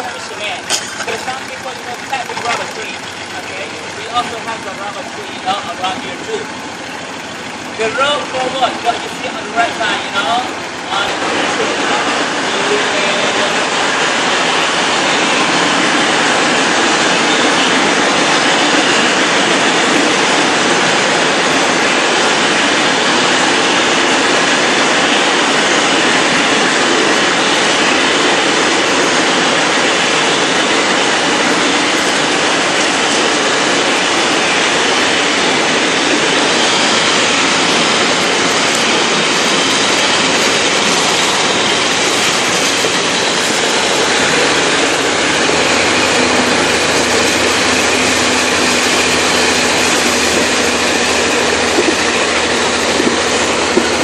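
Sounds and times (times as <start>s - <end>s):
boat engine droning: 0.0s - 54.0s
water rushing along hull: 0.0s - 54.0s.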